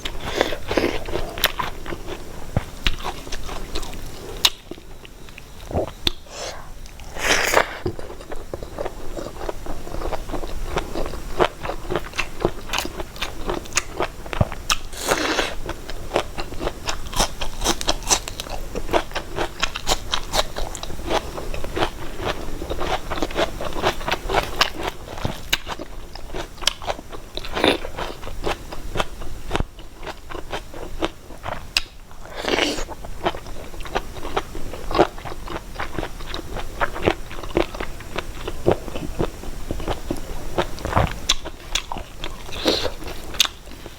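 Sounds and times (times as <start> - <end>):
crunchy chewing and mouth clicks: 0.0 - 43.9.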